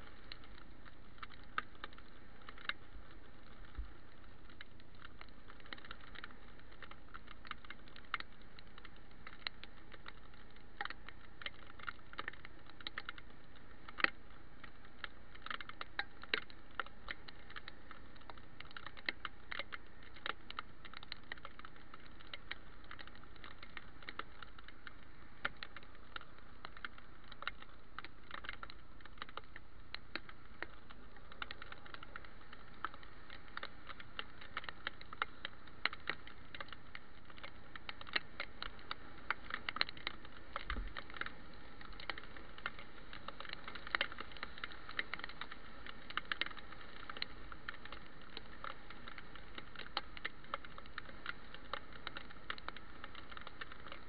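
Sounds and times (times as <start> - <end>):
raindrops ticking on camera: 0.0 - 54.0
steady riding hiss: 0.0 - 54.0.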